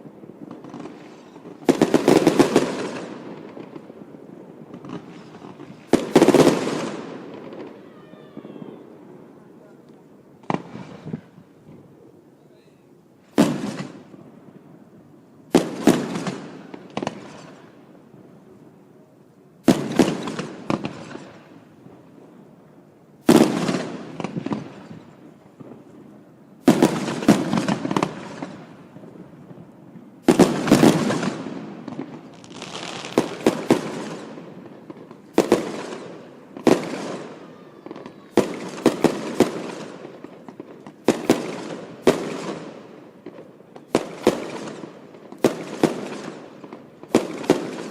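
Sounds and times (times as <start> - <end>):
firework bangs: 0.0 - 9.8, 10.4 - 12.0, 13.2 - 18.0, 19.6 - 47.9
firework crackle: 0.0 - 47.9.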